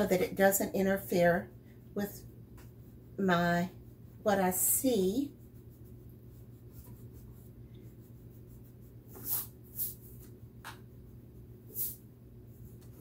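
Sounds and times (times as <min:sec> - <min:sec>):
eraser rubbing on paper: 0:00.1 - 0:13.0.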